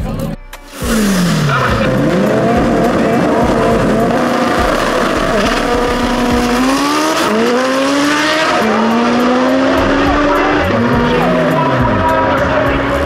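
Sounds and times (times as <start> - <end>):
drag car engine accelerating hard: 0.7 - 13.0
engine gear shifts: 0.8 - 13.0.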